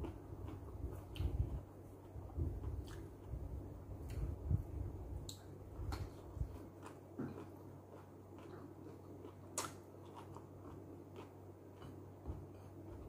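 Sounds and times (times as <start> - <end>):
person chewing food: 0.0 - 4.4, 5.3 - 13.0
faint low hum: 0.0 - 13.0.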